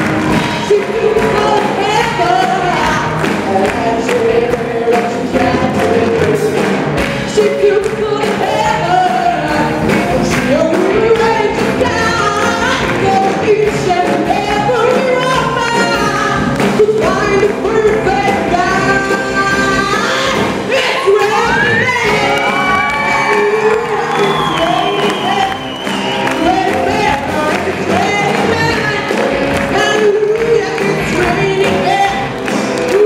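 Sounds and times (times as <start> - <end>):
drum kit beating: 0.0 - 33.0
electric guitars: 0.0 - 33.0
woman singing: 0.2 - 33.0.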